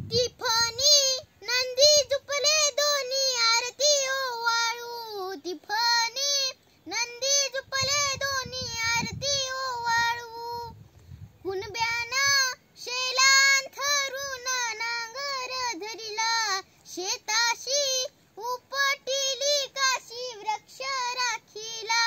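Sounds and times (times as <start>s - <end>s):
girl singing devotional song: 0.0s - 22.0s.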